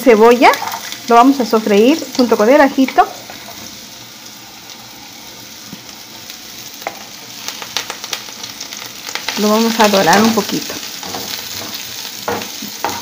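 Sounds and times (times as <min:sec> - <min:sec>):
onion and garlic frying: 0:00.0 - 0:13.0.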